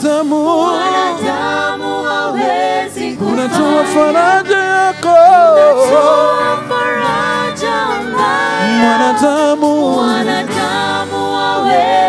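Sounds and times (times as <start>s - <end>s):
group singing gospel song: 0.0s - 12.0s
band playing: 0.1s - 12.0s.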